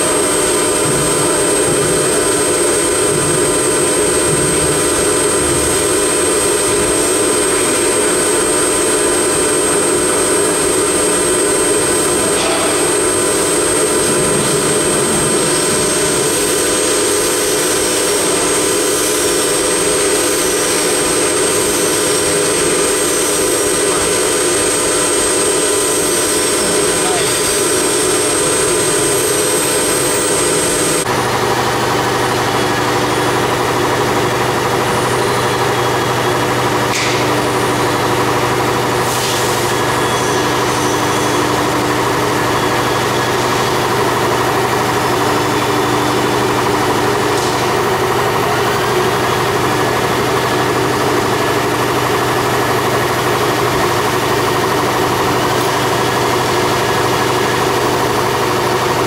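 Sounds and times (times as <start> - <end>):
high machine whine: 0.0 - 59.0.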